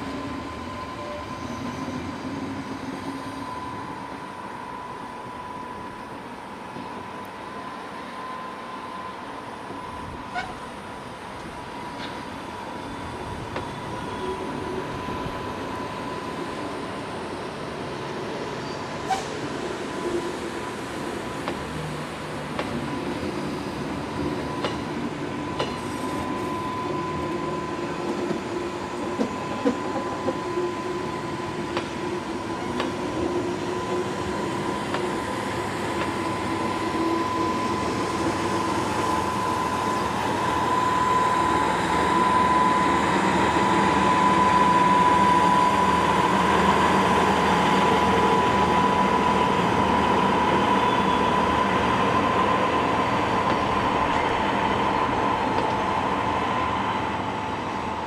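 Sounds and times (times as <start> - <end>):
train rolling past: 0.0 - 58.0.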